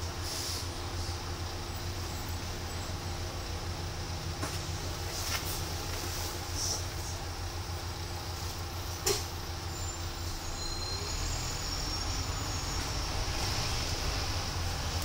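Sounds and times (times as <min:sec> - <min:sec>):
bus engine drone and road noise: 0:00.0 - 0:15.0.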